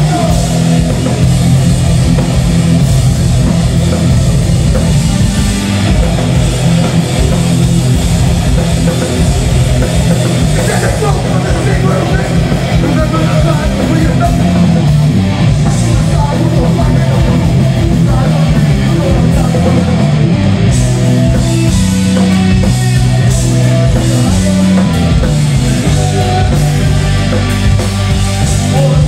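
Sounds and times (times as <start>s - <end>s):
live heavy rock band: 0.0s - 29.0s.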